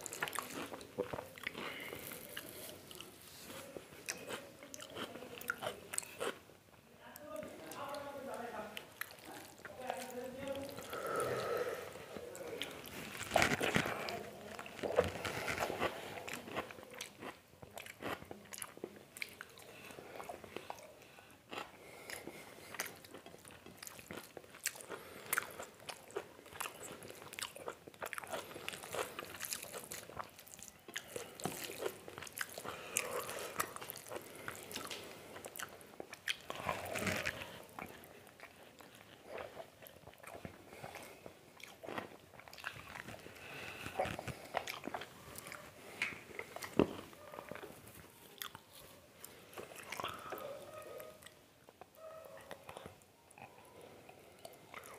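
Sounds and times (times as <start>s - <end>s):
chewing with wet smacking: 0.0s - 6.4s, 7.1s - 54.9s.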